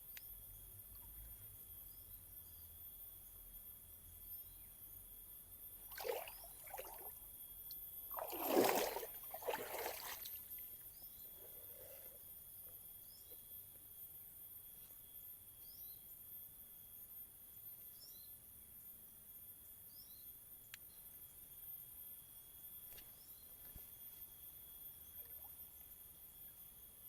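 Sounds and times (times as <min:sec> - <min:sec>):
faint bird chirps: 0:00.0 - 0:19.0, 0:19.6 - 0:27.0.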